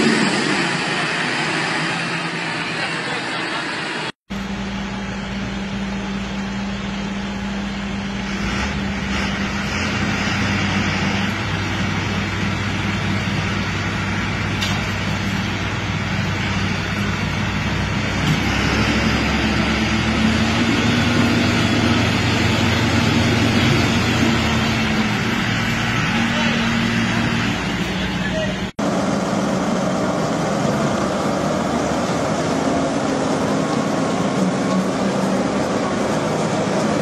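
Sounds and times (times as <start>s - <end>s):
tractor diesel engines pulling hard: 0.0s - 37.0s.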